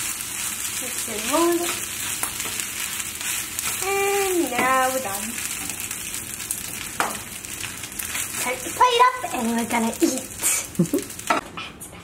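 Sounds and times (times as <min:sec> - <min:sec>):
rice sizzling in a frying pan: 0:00.0 - 0:11.5.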